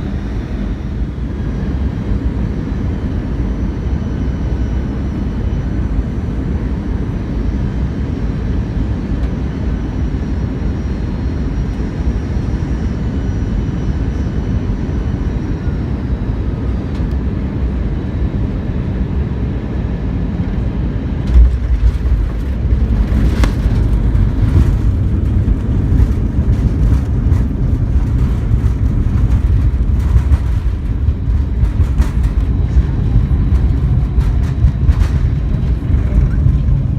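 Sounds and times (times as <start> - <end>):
jet engine rumble: 0.0 - 36.9.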